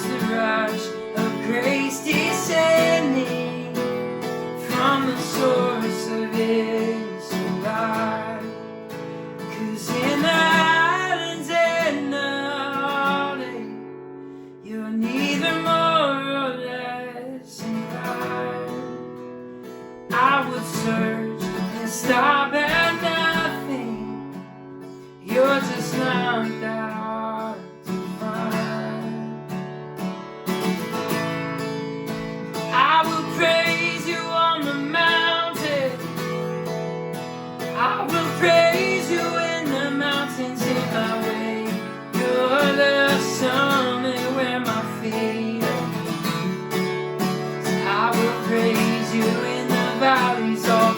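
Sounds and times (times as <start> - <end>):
person singing: 0.0 - 8.5, 9.4 - 13.8, 14.6 - 18.9, 20.1 - 24.2, 25.2 - 29.4, 32.6 - 36.4, 37.7 - 46.6, 47.6 - 50.9
strummed acoustic guitar: 0.0 - 50.9.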